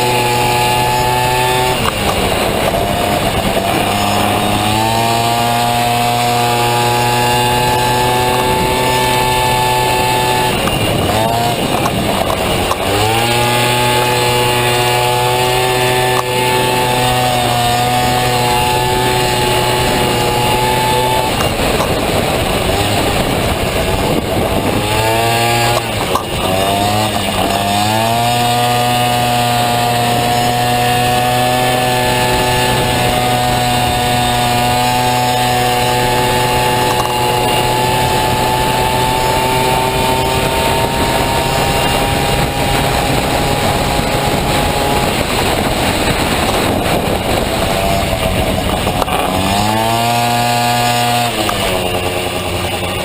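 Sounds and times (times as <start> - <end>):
scooter engine revving: 0.0 - 53.0.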